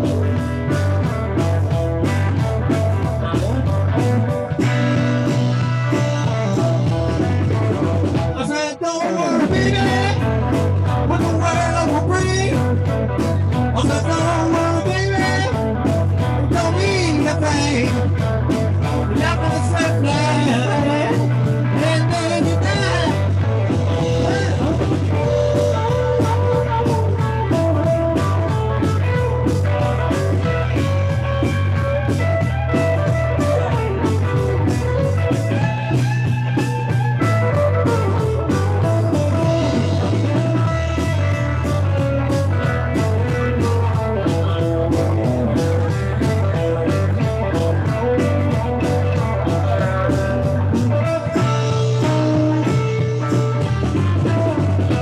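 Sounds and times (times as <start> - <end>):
rock music with guitar and singing: 0.0 - 55.0.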